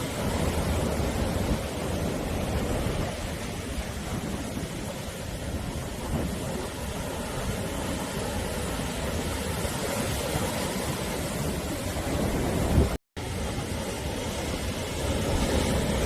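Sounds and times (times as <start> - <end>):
sea waves rushing: 0.0 - 16.0.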